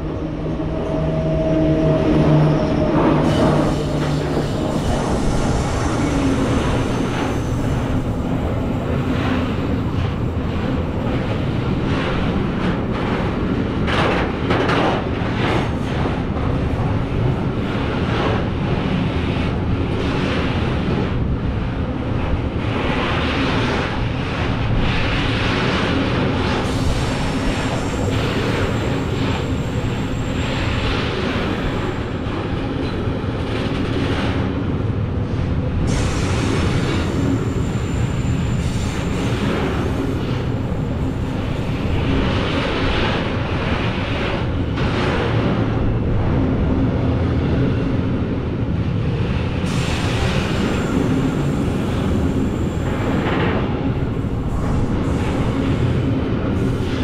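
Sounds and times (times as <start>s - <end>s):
electric locomotive hum: 0.0s - 57.0s.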